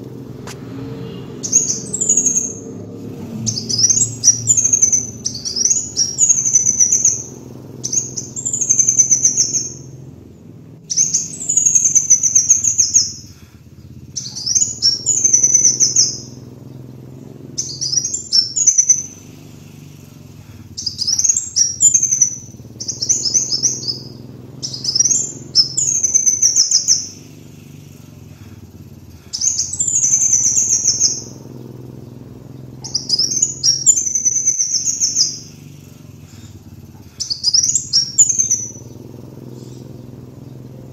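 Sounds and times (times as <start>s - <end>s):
faint low hum: 0.0s - 40.9s
sunbird singing: 0.0s - 40.9s.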